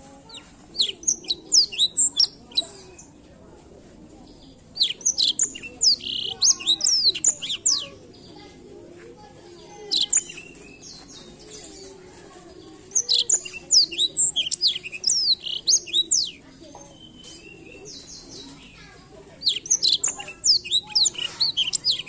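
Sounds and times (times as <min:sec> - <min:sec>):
canary singing: 0:00.0 - 0:03.1, 0:04.7 - 0:08.4, 0:09.6 - 0:12.0, 0:12.8 - 0:22.0.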